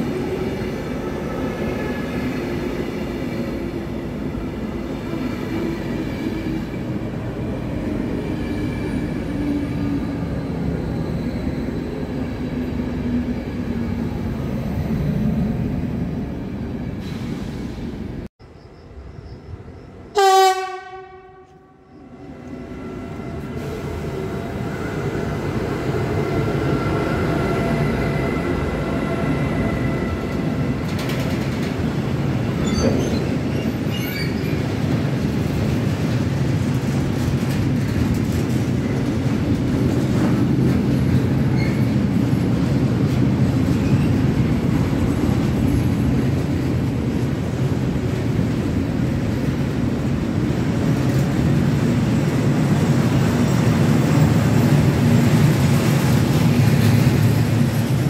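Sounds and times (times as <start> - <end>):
freight train rumble and wheel clatter: 0.0 - 18.3, 19.0 - 58.0.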